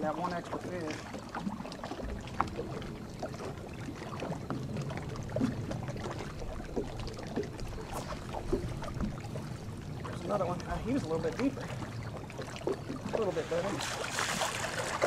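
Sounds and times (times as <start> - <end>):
wind and water against hull: 0.0 - 15.0.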